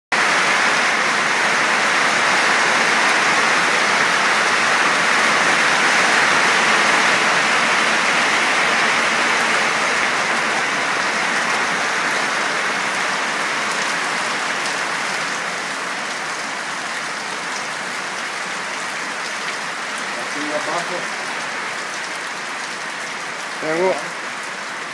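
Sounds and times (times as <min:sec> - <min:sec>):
rain pattering on surfaces: 0:00.1 - 0:24.9.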